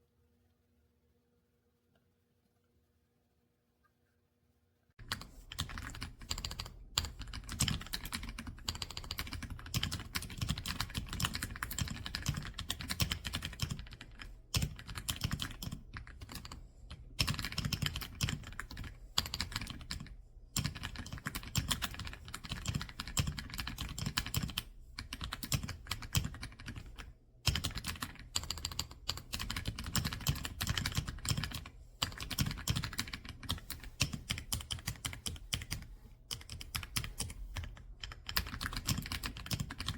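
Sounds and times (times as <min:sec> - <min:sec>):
mechanical keyboard typing: 0:05.0 - 0:39.9.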